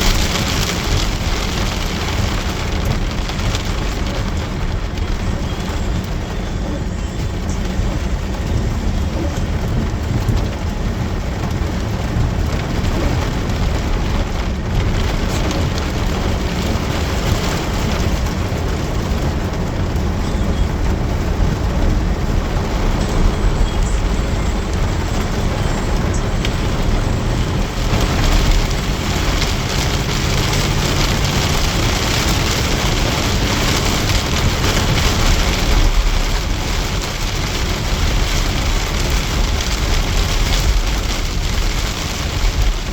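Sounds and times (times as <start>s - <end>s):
heavy rain pouring: 0.0s - 42.9s
low rumble: 0.0s - 42.9s.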